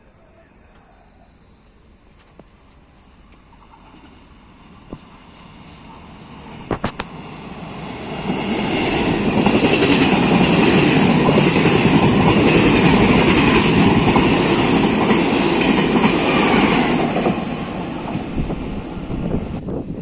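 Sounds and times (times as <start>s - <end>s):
passenger train passing at speed: 2.6s - 20.0s.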